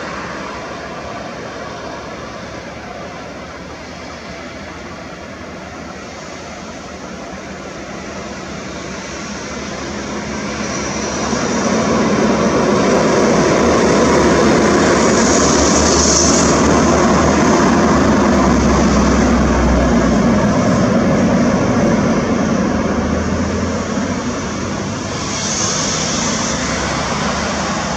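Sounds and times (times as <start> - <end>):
airliner engines passing: 0.0 - 27.9.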